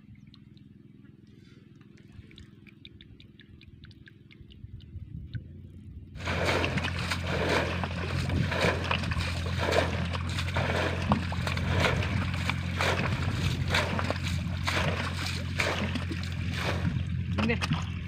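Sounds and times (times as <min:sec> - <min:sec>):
low hum: 0:00.0 - 0:18.0
muddy water splashing: 0:00.0 - 0:18.0.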